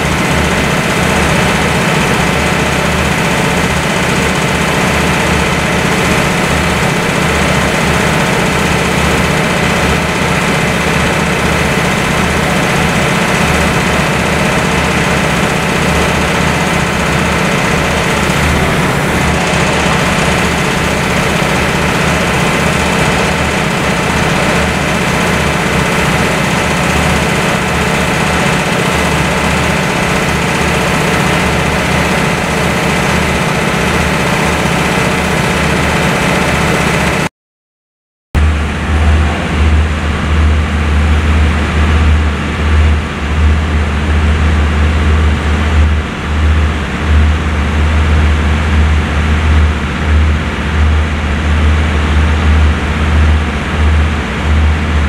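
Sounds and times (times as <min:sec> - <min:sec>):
diesel train engine idling: 0:00.0 - 0:37.2, 0:38.4 - 0:55.0.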